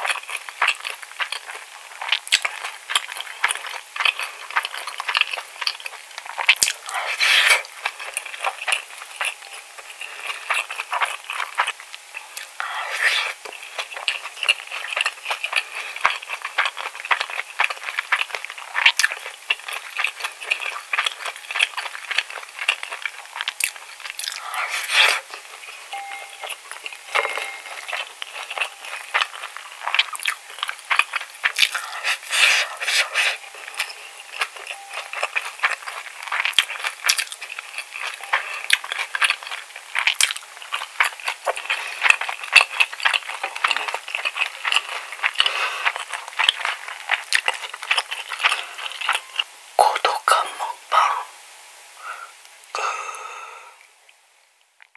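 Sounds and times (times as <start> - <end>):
chewing and mouth sounds: 0.0 - 51.3.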